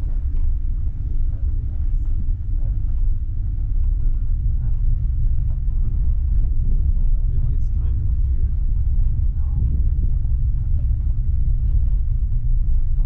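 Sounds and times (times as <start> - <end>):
car rumbling on dirt road: 0.0 - 13.0
faint rattles: 0.0 - 13.0.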